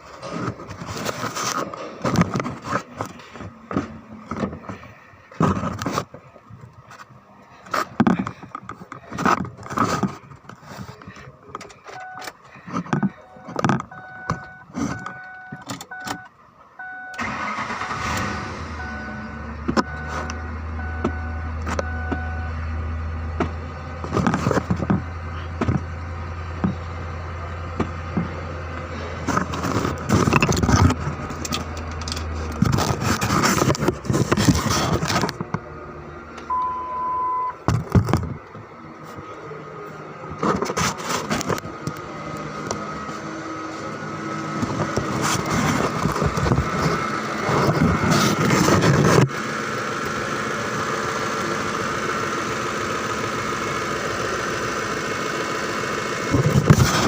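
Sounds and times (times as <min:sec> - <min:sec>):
car engine starting and running: 0:00.0 - 0:57.0.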